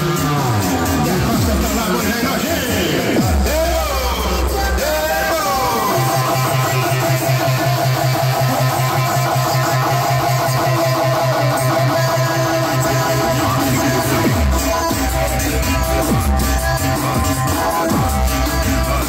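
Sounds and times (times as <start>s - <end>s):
fast pulsing bass: 0.0s - 19.0s
loud music through speakers: 0.0s - 19.0s.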